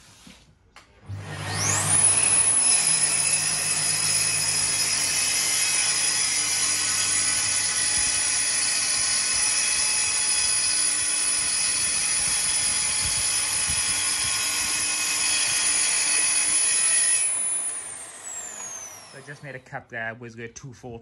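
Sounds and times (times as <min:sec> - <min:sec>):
track saw cutting with steady whine: 0:01.1 - 0:19.6.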